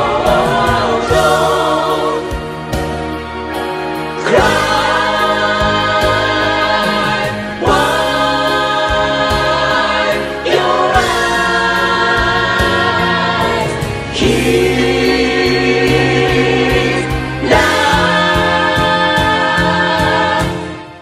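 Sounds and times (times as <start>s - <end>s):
gospel choir singing in harmony: 0.0s - 21.0s.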